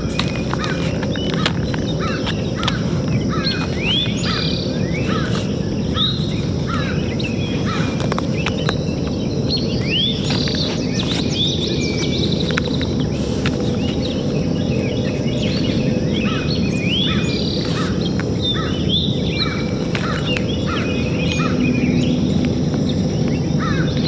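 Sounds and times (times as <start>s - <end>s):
birds chirping: 0.0s - 24.0s
low background rumble: 0.0s - 24.0s.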